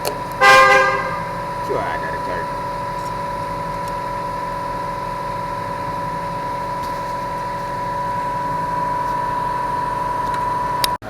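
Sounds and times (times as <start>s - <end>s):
engine idling with whine: 0.0s - 11.0s.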